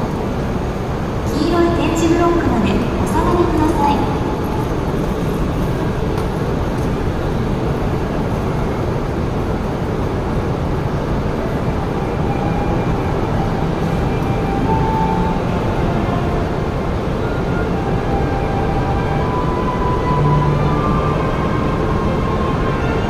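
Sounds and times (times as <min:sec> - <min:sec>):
train low rumble and hiss: 0:00.0 - 0:23.0.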